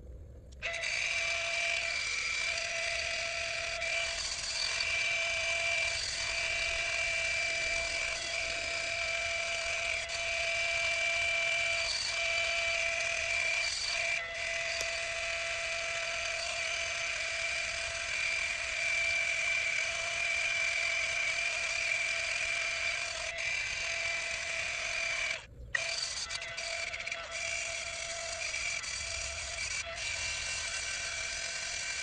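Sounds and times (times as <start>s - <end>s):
angle grinder sanding wood: 0.6s - 32.0s.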